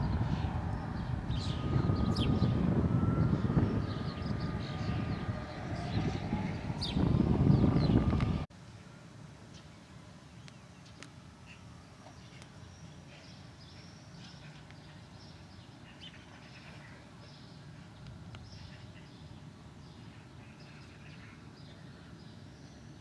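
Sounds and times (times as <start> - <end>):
faint birds chirping: 0.0 - 8.9, 9.5 - 23.0.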